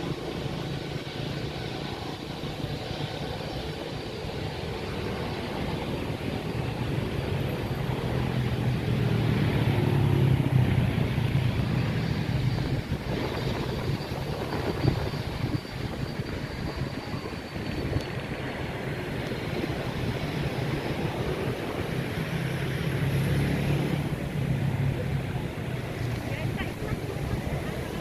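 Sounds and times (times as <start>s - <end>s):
airliner taking off: 0.0s - 28.0s
wind buffeting microphone: 0.0s - 28.0s.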